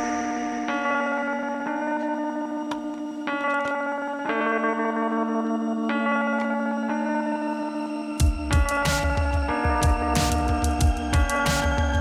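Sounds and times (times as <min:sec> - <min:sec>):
ringing chords music: 0:00.0 - 0:12.0.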